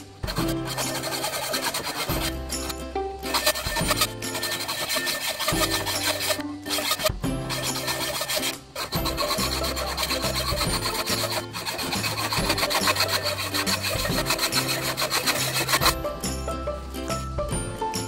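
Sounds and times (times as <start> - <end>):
hacksaw cutting metal: 0.0 - 16.0.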